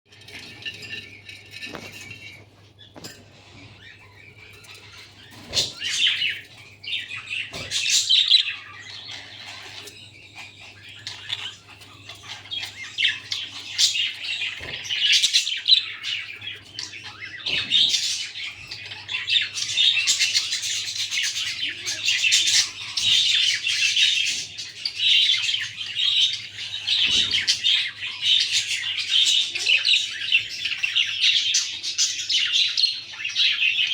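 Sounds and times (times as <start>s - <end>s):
budgerigars chirping: 1.7s - 33.9s.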